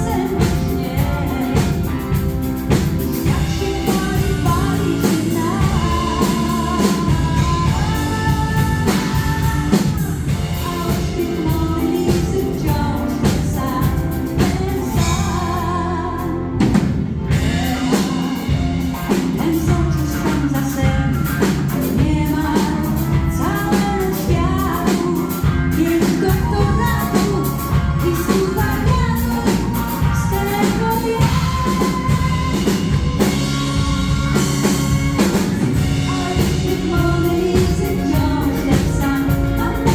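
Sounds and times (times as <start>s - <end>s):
band playing pop song: 0.0s - 39.9s
drum kit: 0.0s - 39.9s
woman singing: 0.0s - 39.9s.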